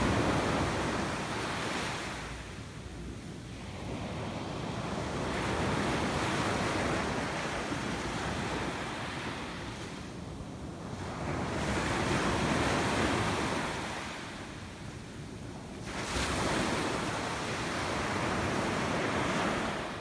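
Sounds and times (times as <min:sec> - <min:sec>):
sea waves washing ashore: 0:00.0 - 0:20.0.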